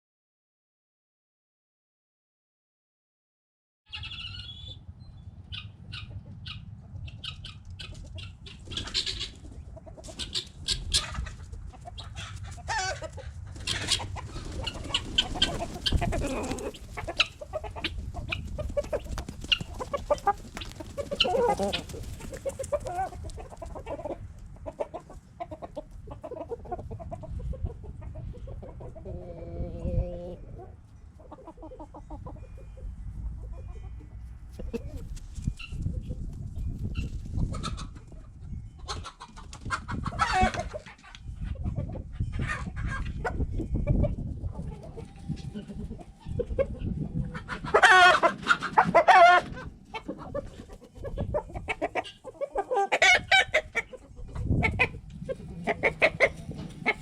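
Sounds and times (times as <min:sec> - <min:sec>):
chickens clucking and calling: 0:03.9 - 0:57.0.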